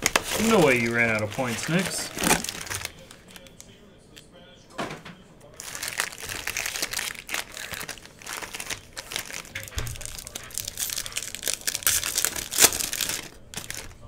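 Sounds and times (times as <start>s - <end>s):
foil pack tearing open: 0.0s - 3.6s, 5.6s - 14.0s
foil wrappers crinkling: 0.0s - 3.7s, 5.5s - 14.0s.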